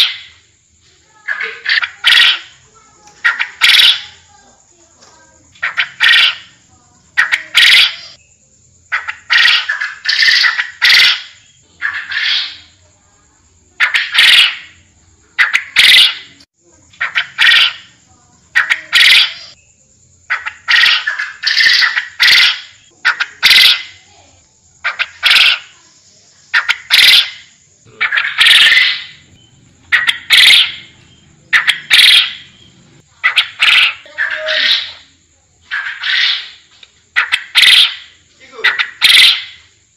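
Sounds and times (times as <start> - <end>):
quail calling: 0.0 - 0.4, 1.2 - 2.6, 3.2 - 4.3, 5.6 - 8.2, 8.9 - 12.8, 13.8 - 14.8, 15.4 - 16.4, 17.0 - 19.6, 20.3 - 24.1, 24.8 - 25.8, 26.5 - 39.7.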